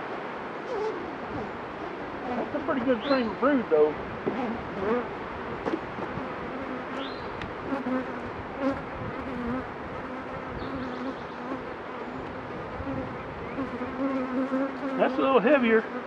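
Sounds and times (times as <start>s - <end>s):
honeybees buzzing: 0.6s - 16.0s.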